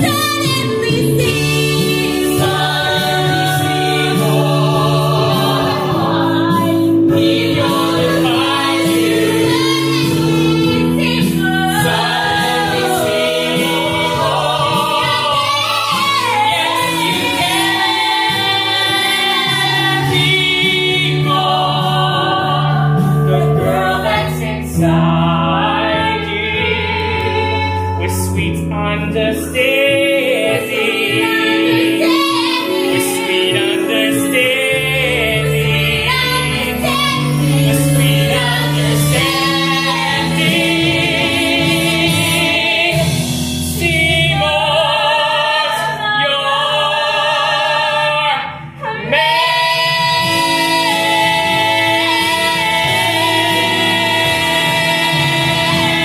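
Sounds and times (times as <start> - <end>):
backing chorus: 0.0 - 56.0
man and woman singing duet: 0.0 - 56.0
musical accompaniment: 0.0 - 56.0.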